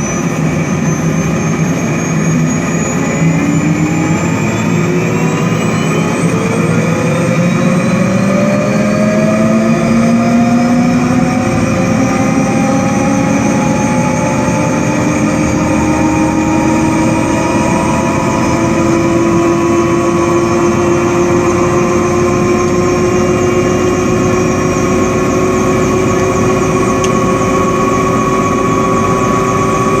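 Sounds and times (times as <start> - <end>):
helicopter turbine whine rising: 0.0 - 30.0.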